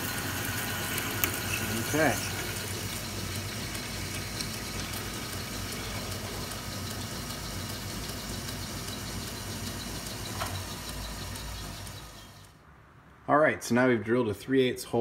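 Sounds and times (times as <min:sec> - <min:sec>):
lathe motor hum: 0:00.0 - 0:12.6
light regular ticking: 0:00.4 - 0:12.6.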